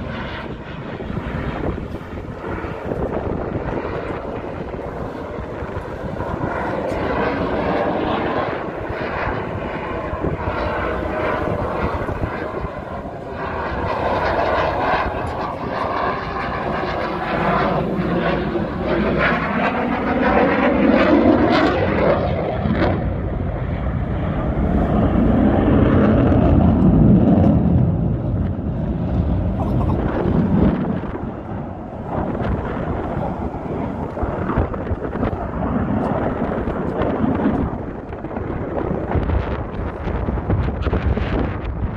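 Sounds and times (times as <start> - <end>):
aircraft flying overhead: 0.0 - 41.9.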